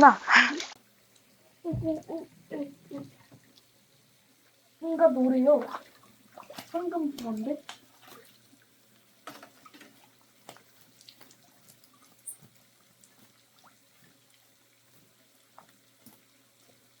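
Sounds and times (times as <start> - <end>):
small water splashes and drips: 0.5 - 17.0.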